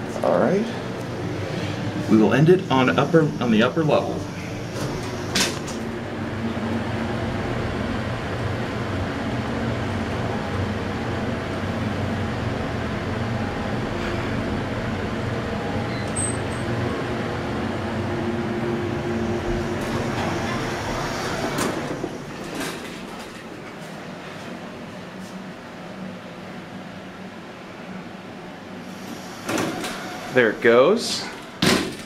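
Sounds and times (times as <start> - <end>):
elevator hum and ride noise: 0.0 - 32.0.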